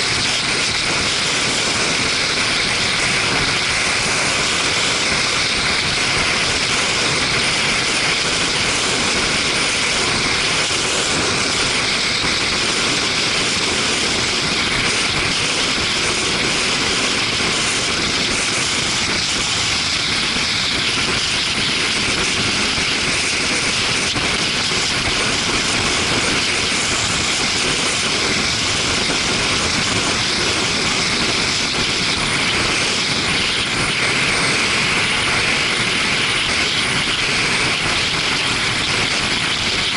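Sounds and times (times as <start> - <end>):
wind and road noise at speed: 0.0 - 39.9.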